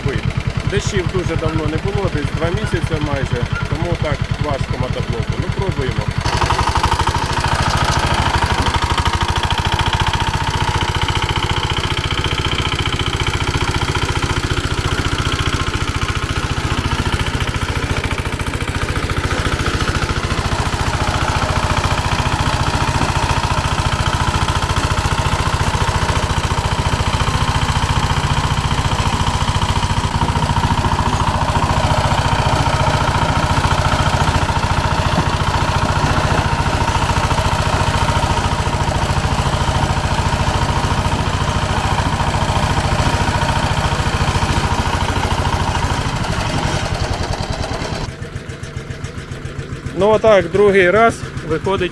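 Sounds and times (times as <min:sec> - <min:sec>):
rotary tiller churning soil: 0:00.0 - 0:51.9
tractor engine under heavy load: 0:00.0 - 0:51.9.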